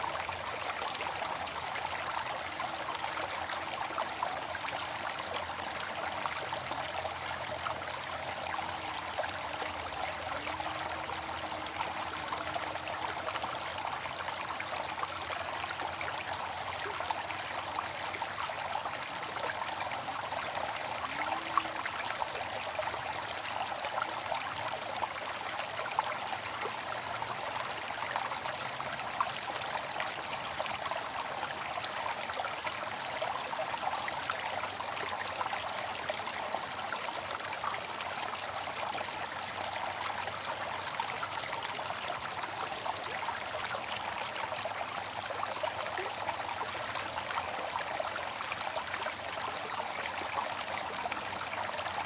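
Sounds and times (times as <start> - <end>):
water fountain splashing: 0.0 - 52.0.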